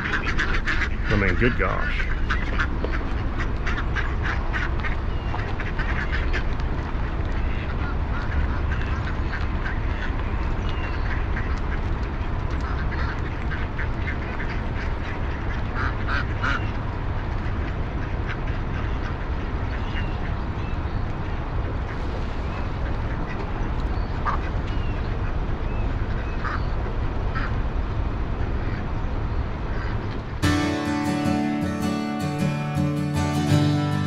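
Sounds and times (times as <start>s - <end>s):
ducks quacking: 0.0s - 27.7s, 28.3s - 34.0s
steady low rumble: 0.0s - 34.0s.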